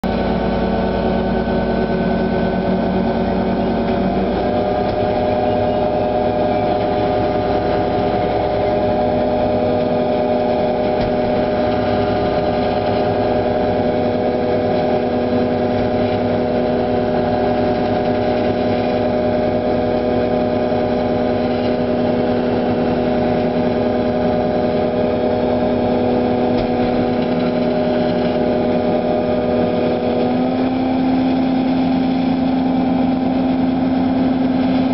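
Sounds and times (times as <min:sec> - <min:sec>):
boat engine droning: 0:00.0 - 0:34.9.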